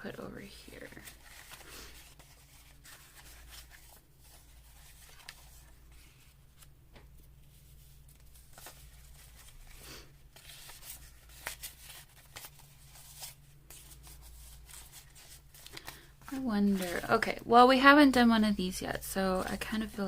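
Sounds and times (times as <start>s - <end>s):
low electrical hum: 0.0s - 20.0s
paper rustling and ticking: 0.6s - 7.4s, 8.0s - 17.4s, 18.6s - 20.0s.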